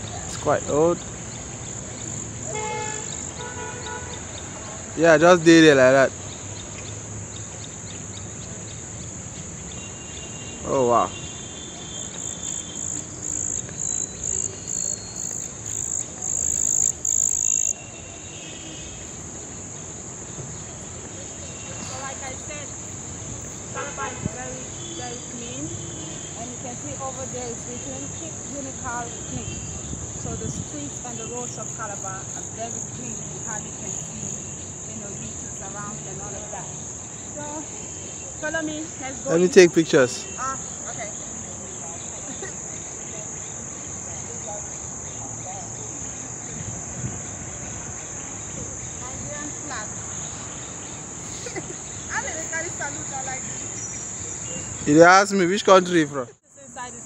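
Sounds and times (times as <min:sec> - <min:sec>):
insect calling in bursts: 0:00.0 - 0:57.0
insect chorus: 0:00.0 - 0:57.0.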